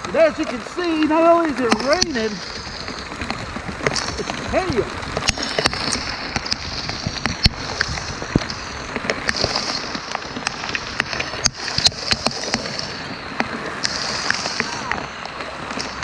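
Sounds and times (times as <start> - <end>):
hailstones ticking: 0.0 - 16.0
rain hissing: 0.0 - 16.0.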